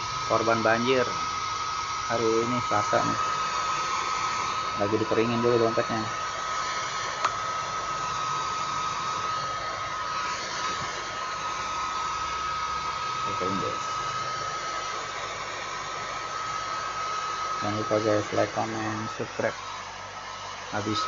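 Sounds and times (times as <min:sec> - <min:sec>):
hair dryer blowing: 0:00.0 - 0:21.0.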